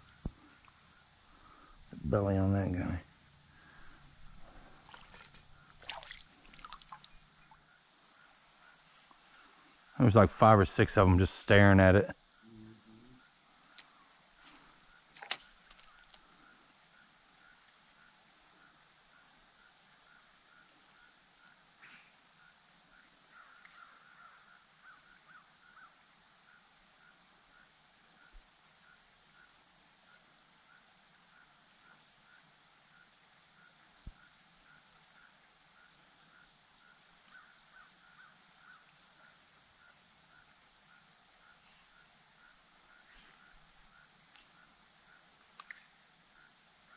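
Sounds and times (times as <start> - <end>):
high-pitched insect chorus trilling: 0.0 - 46.9
lower insect chirp: 0.0 - 46.9.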